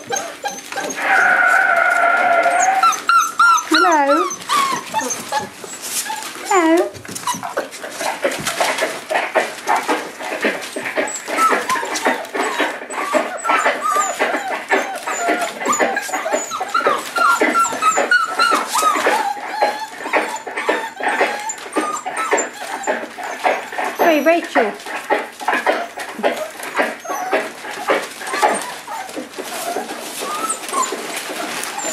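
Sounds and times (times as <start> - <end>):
puppies whining and yelping: 0.0 - 31.9
newspaper crackling: 0.1 - 20.4, 21.3 - 31.9.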